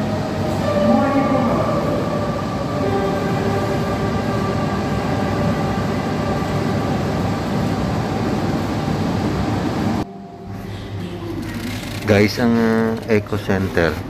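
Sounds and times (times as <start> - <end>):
rumbling drone over loudspeakers: 0.0 - 14.0.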